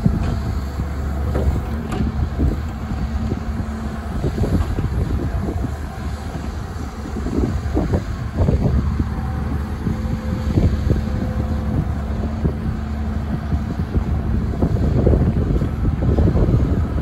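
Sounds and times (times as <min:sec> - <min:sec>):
excavator diesel engine running: 0:00.0 - 0:17.0
wind buffeting microphone: 0:00.0 - 0:17.0.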